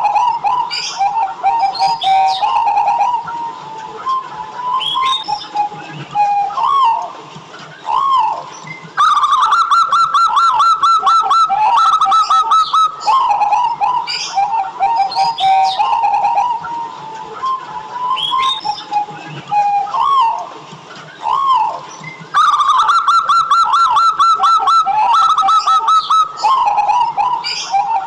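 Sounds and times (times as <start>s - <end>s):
doves cooing: 0.0s - 28.0s.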